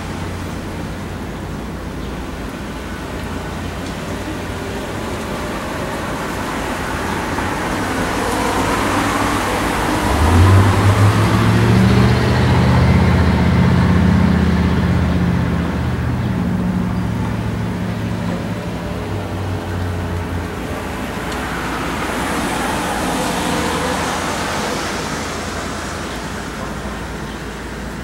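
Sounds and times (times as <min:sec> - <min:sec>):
low engine hum: 0:00.0 - 0:28.0
road noise: 0:00.0 - 0:28.0.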